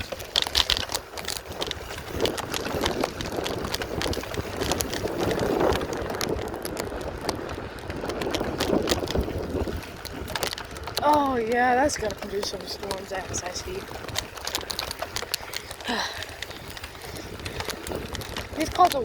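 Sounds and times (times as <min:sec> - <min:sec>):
handling clicks and knocks: 0:00.0 - 0:19.0
wind buffeting microphone: 0:00.0 - 0:19.0.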